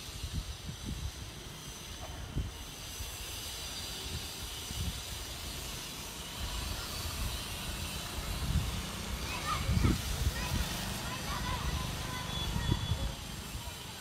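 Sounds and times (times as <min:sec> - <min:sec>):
wind buffeting microphone: 0:00.0 - 0:13.8
steady hiss: 0:00.0 - 0:14.0.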